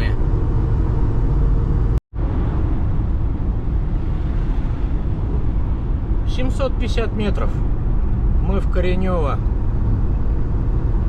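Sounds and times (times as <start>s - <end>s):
van engine and tyres rumbling: 0.0s - 11.0s
wind through open window: 0.0s - 11.0s.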